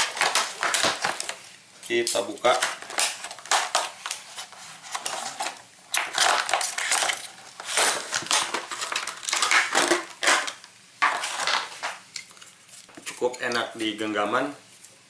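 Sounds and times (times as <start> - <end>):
packaging rustling and crumpling: 0.0 - 1.5, 2.2 - 13.2.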